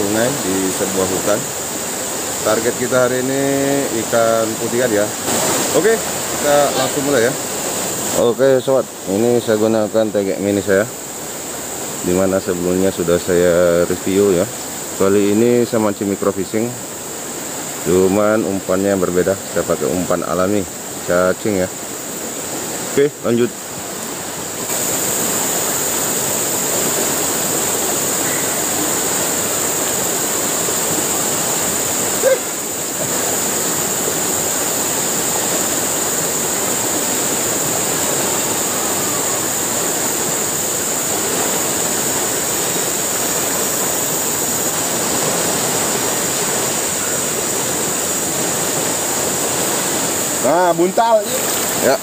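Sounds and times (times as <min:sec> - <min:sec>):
river rushing over rocks: 0:00.0 - 0:52.0.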